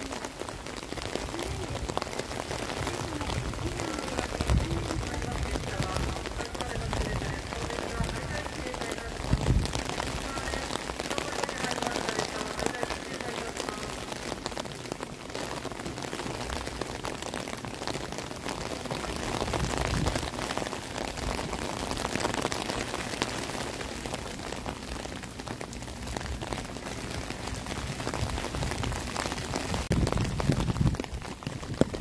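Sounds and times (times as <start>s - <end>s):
rain on an umbrella: 0.0s - 32.0s.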